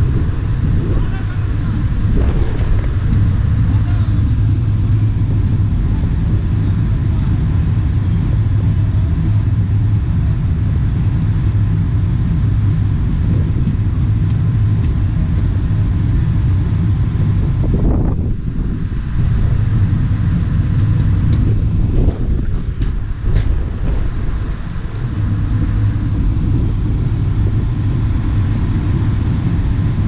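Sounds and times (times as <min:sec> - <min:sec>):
train rumbling at speed: 0:00.0 - 0:30.0.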